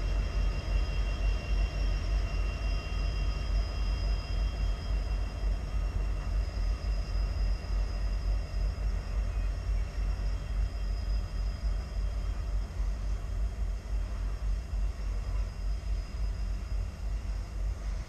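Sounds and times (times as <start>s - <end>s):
distant freight train rumble: 0.0s - 18.0s.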